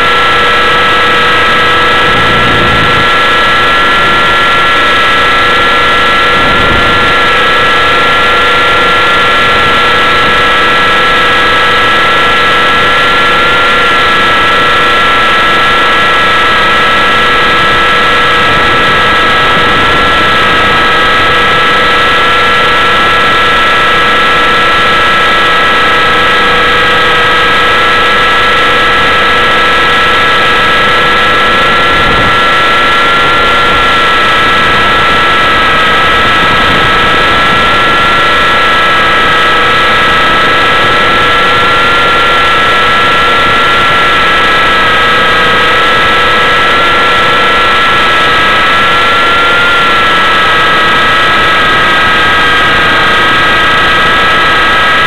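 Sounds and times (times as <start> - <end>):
helicopter motor whine: 0.0 - 55.0.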